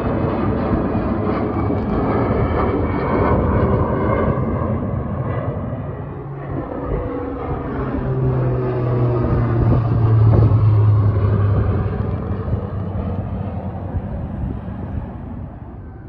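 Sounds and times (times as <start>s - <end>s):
jet engines rushing overhead: 0.0s - 16.0s.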